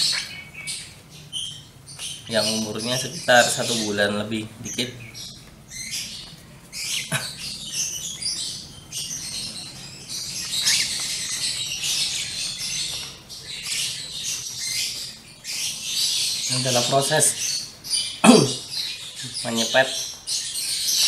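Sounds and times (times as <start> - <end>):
chicks giving scratchy calls: 0.0 - 21.0.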